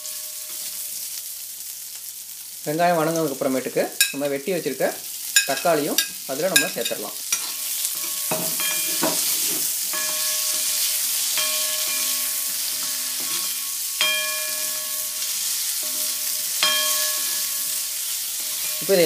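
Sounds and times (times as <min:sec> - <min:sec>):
onions and tomatoes sizzling in oil: 0:00.0 - 0:19.0.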